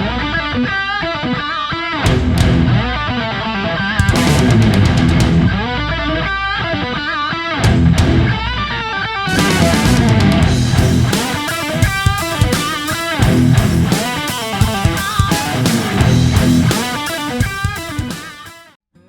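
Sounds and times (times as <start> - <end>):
rock music with electric guitar: 0.0 - 18.8.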